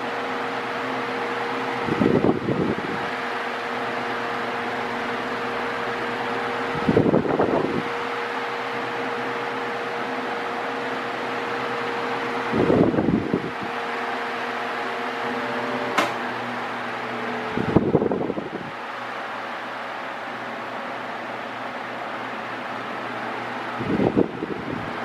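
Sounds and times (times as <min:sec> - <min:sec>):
fan motor hum: 0:00.0 - 0:25.0
table fan air rushing: 0:00.0 - 0:25.0
airflow buffeting microphone: 0:01.3 - 0:09.8, 0:10.8 - 0:25.0.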